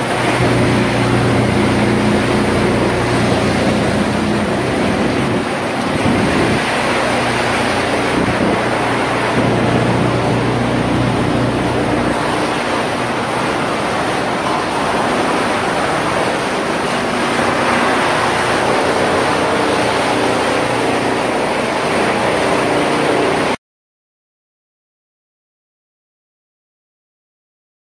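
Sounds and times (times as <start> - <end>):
low hum: 0.0 - 23.6
wood-chipping machinery rushing: 0.0 - 23.6.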